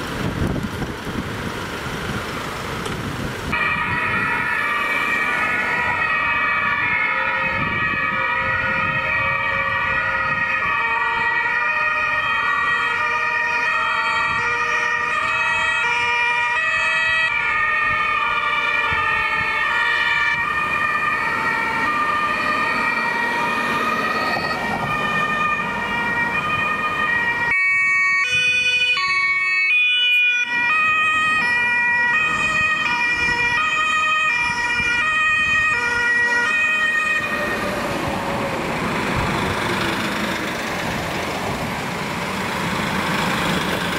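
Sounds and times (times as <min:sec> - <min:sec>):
vehicle engines and tyres passing: 0:00.0 - 0:43.9
two-tone sirens overlapping: 0:03.1 - 0:43.9.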